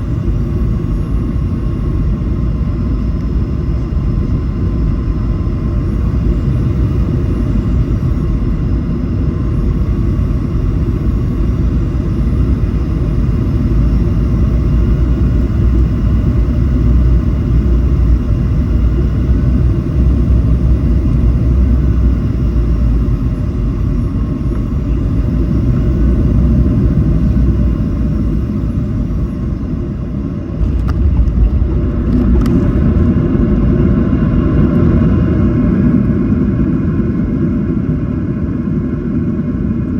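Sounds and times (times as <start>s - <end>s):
airliner cabin engine rumble: 0.0s - 39.9s
faint whining engine tones: 0.0s - 39.9s.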